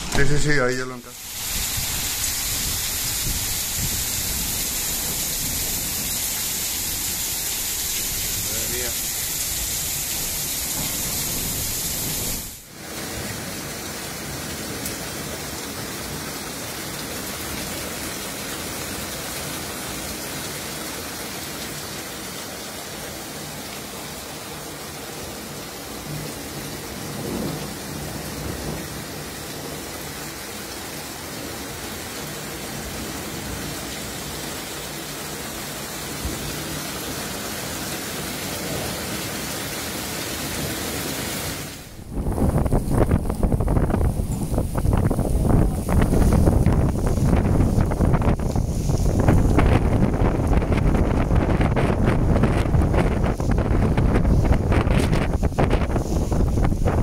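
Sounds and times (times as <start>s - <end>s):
heavy rain and hail: 0.0s - 57.0s.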